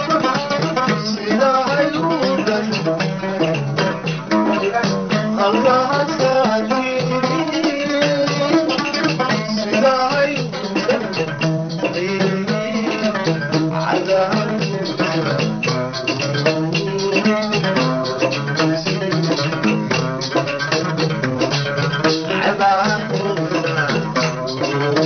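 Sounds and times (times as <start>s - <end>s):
man singing: 0.0s - 25.0s
plucked string accompaniment: 0.0s - 25.0s
rattling percussion rhythm: 0.0s - 25.0s.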